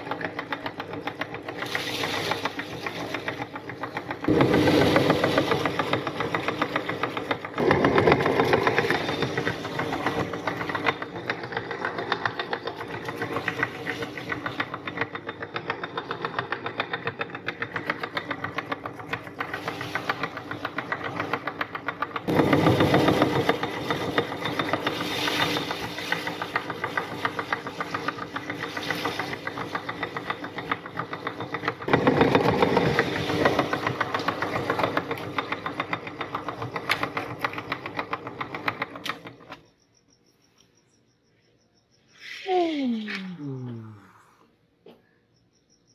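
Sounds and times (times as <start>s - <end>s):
meat grinder crushing cookies: 0.0s - 39.6s.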